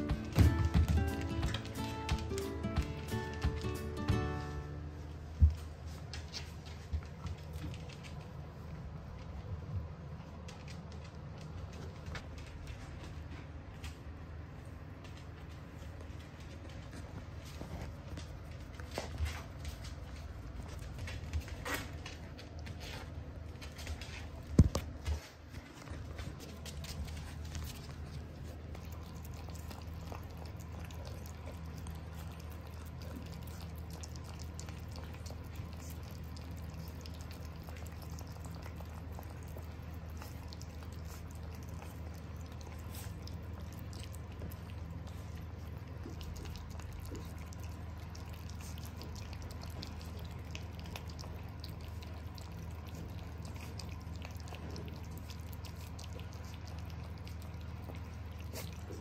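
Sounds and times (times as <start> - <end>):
puppies lapping food: 0.0 - 59.0.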